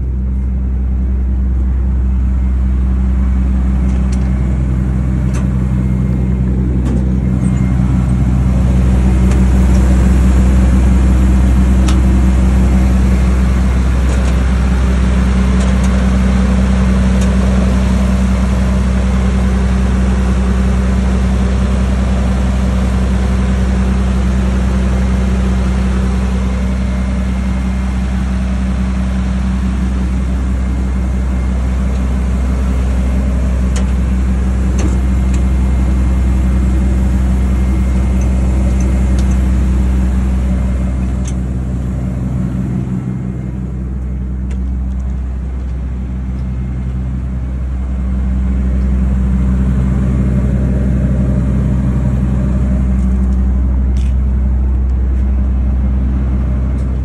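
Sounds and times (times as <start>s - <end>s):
cooling fan turning: 0.0s - 57.0s
diesel engine humming: 0.0s - 57.0s.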